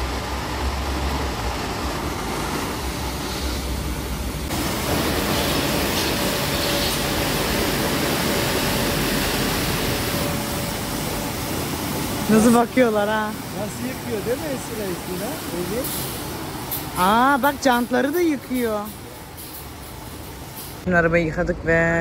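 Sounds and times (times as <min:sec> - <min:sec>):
car wash water spray: 0:00.0 - 0:20.9.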